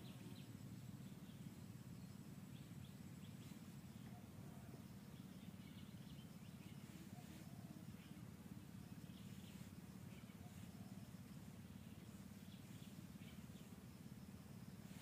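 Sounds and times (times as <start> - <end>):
faint high chirps: 0.0 - 15.0
low steady rumble: 0.0 - 15.0.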